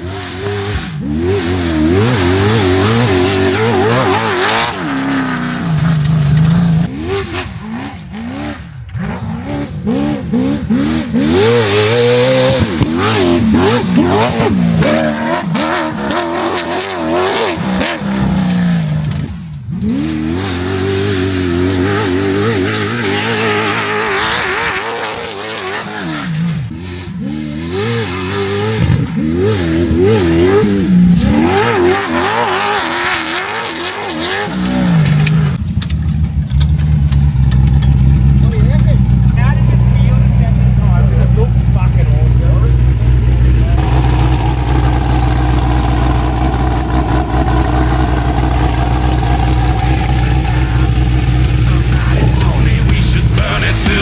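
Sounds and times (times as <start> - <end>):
race car engine revving: 0.0 - 35.6, 36.5 - 54.0.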